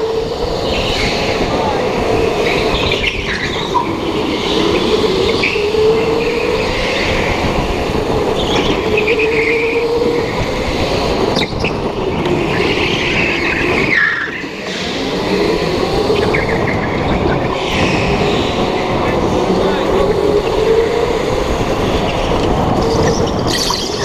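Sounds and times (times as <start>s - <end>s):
go-kart motor: 0.0s - 24.0s.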